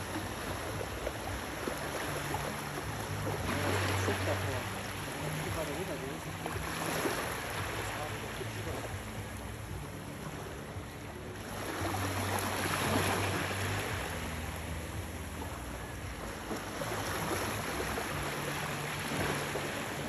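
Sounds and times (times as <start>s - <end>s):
low steady hum: 0.0s - 20.0s
small waves washing on beach: 0.0s - 20.0s.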